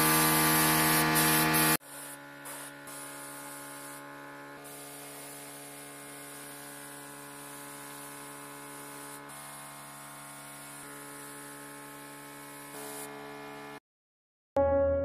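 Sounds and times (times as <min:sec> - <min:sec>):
spray gun hissing: 0:00.0 - 0:04.0, 0:04.6 - 0:13.1.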